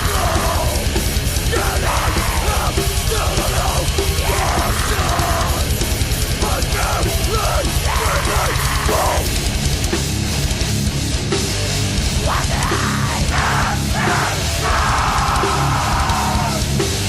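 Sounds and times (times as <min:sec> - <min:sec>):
distorted electric guitars: 0:00.0 - 0:17.0
drum kit with rapid kick drum: 0:00.0 - 0:17.0.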